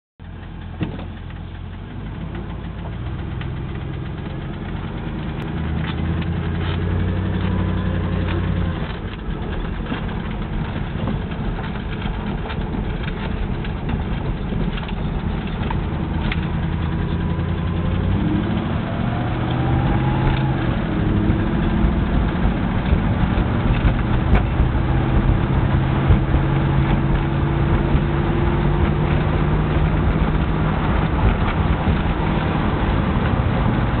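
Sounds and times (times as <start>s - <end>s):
car engine running: 0.2s - 34.0s
engine knock: 0.2s - 34.0s.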